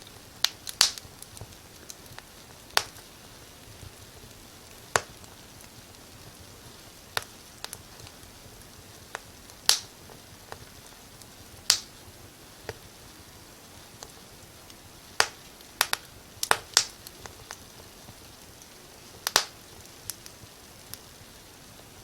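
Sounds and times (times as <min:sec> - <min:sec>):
faint steady hiss: 0:00.0 - 0:22.0
wood fire crackling: 0:00.0 - 0:22.0.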